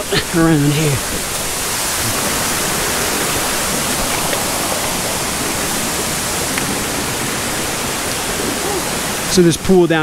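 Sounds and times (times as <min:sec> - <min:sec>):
stream running over stones: 0:00.0 - 0:10.0.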